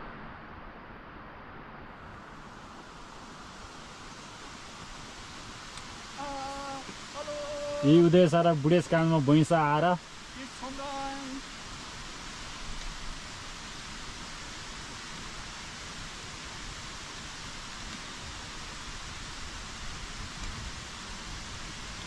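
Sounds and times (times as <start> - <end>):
water hissing: 3.0 - 22.0.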